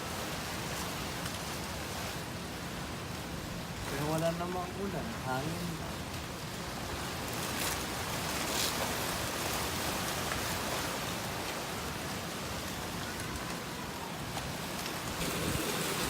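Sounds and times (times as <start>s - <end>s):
wind blowing in gusts: 0.0s - 16.0s.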